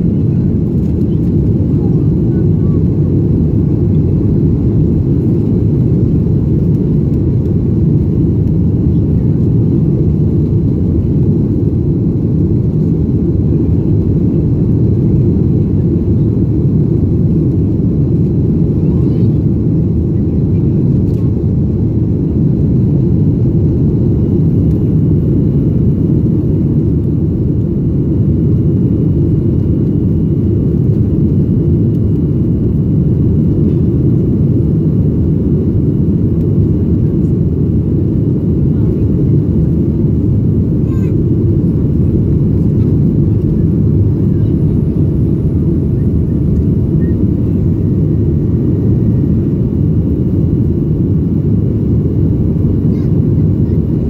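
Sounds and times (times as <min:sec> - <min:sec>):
jet engines roaring in cabin: 0:00.0 - 0:54.0.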